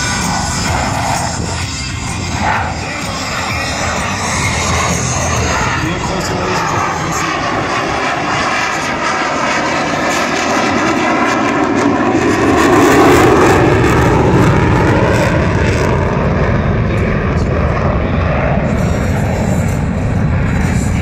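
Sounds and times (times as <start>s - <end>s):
jet passing overhead: 0.0s - 21.0s.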